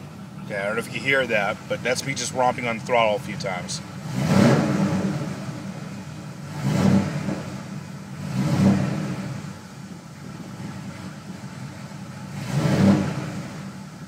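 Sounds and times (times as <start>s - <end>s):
engine revving and misfiring: 0.0s - 14.0s.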